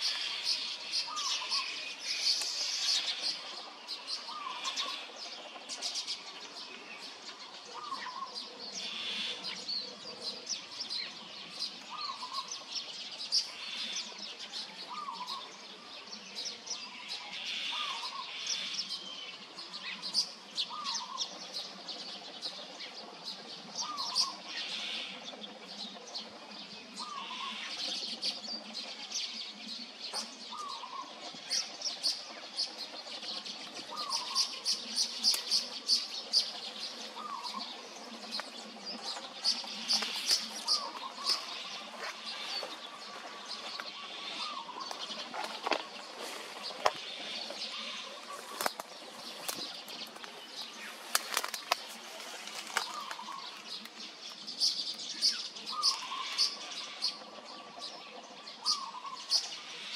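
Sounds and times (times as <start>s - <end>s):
chatter of small bird chirps: 0.0s - 59.9s.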